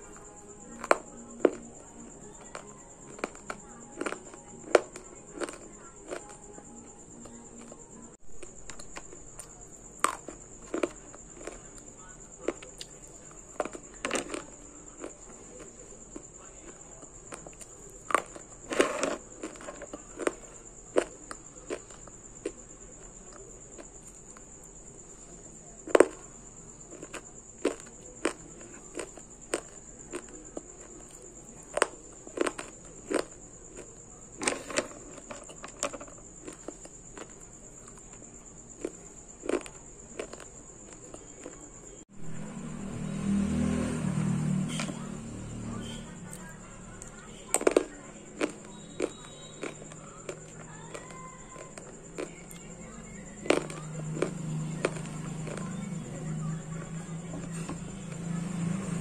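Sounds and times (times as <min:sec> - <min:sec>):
sharp crunches: 0:00.0 - 0:24.5, 0:25.2 - 0:58.9
clay being chewed: 0:00.0 - 0:41.7, 0:46.2 - 0:58.3.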